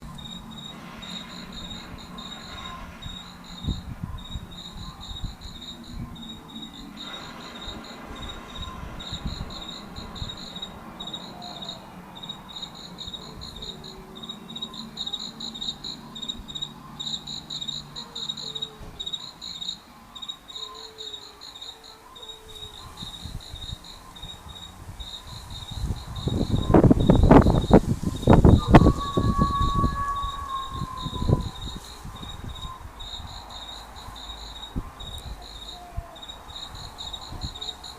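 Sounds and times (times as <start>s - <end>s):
crickets chirping: 0.0s - 37.9s.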